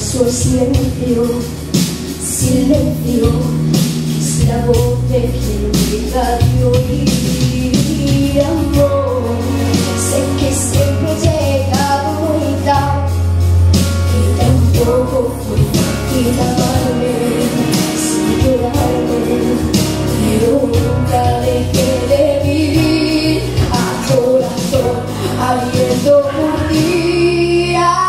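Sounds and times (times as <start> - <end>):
piano accompaniment: 0.0 - 28.0
woman singing pop song: 0.0 - 28.0.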